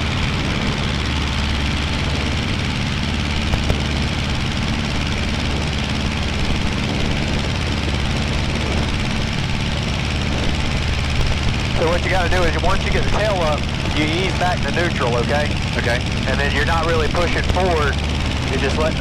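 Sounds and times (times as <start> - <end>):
airplane engine and propeller: 0.0 - 19.0.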